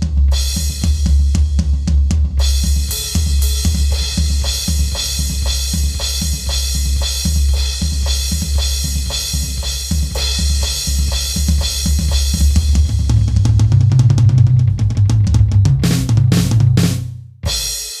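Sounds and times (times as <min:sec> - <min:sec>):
rock drum kit playing: 0:00.0 - 0:18.0.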